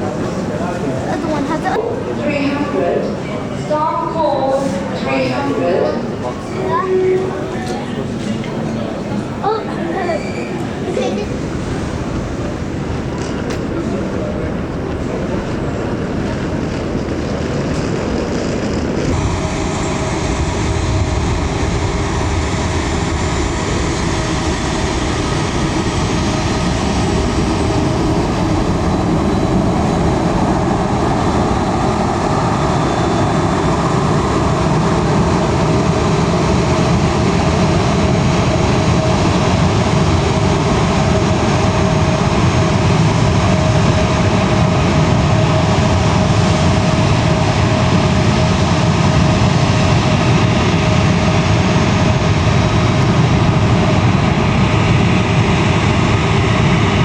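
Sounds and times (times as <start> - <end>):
jet airliner engines whining: 0.0 - 57.0.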